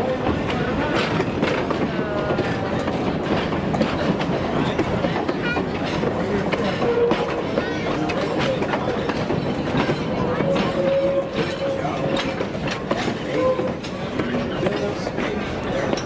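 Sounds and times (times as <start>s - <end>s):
passengers' voices: 0.0s - 16.0s
train wheels clicking over rail joints: 0.0s - 16.0s.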